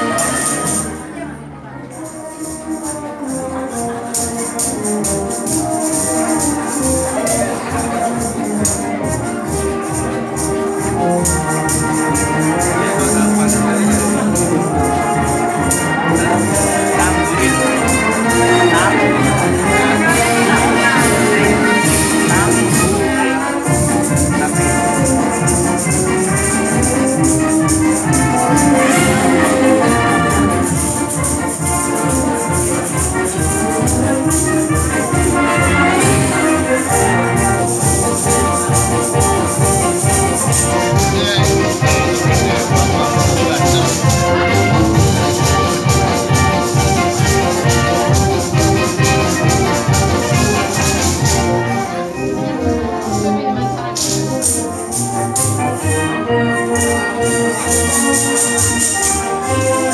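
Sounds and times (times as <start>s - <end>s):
tambourines shaken and struck: 0.0s - 1.1s, 1.9s - 52.0s, 52.8s - 59.9s
instrumental music with steady beat: 0.0s - 1.2s, 1.8s - 59.9s.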